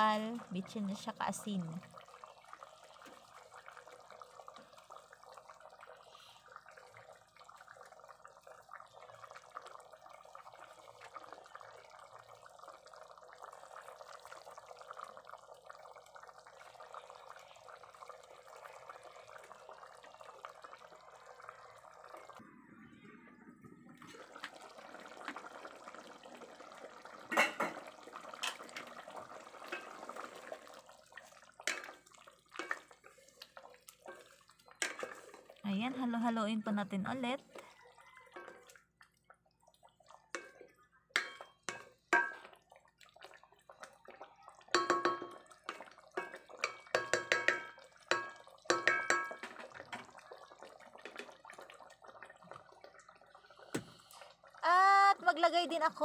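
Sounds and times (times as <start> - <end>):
sauce bubbling in a pot: 0.0 - 56.0.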